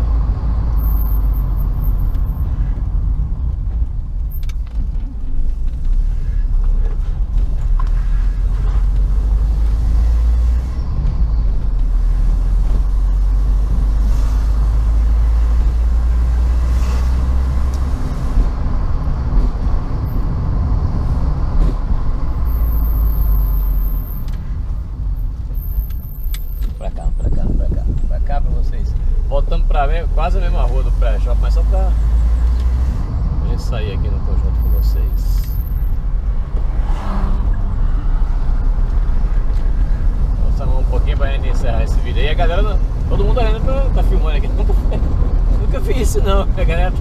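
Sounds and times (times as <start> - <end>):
car engine and tyres rumbling: 0.0 - 47.0.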